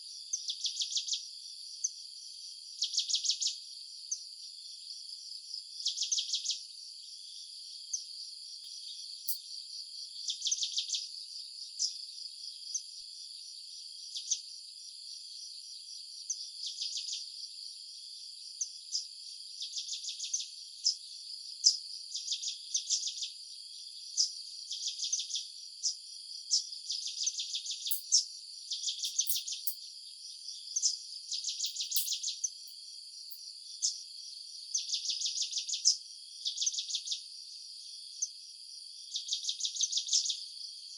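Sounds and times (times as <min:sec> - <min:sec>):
insects chirping: 0:00.0 - 0:40.9.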